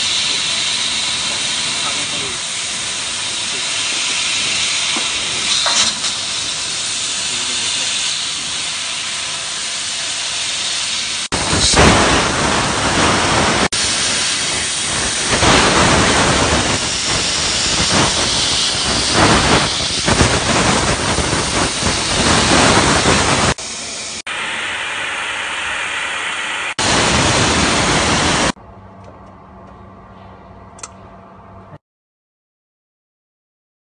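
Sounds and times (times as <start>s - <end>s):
laser cutter air hissing: 0.0s - 28.6s.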